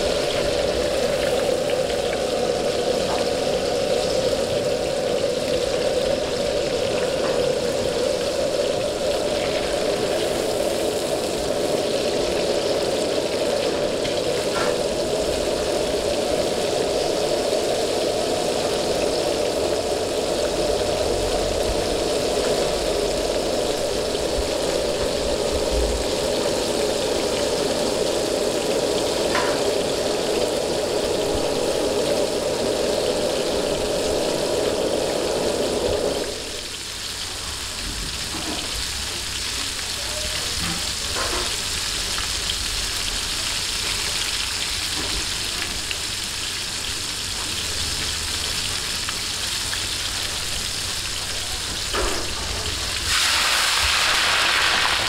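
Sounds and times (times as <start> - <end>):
deep-frying sizzle: 0.0 - 55.0
gas burner roar: 0.0 - 55.0.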